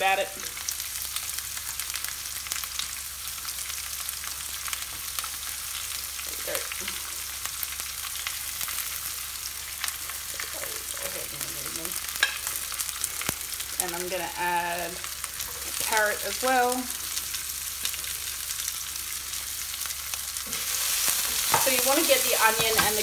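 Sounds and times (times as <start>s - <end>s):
onion sizzling in hot oil: 0.0s - 23.0s.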